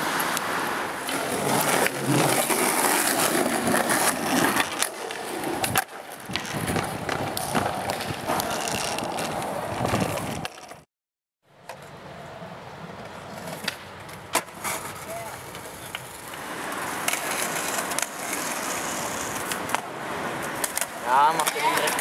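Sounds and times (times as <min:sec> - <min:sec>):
skateboard wheels rolling on stone: 0:00.0 - 0:10.9, 0:11.7 - 0:22.0
skateboard clacks: 0:00.1 - 0:10.8, 0:13.0 - 0:22.0.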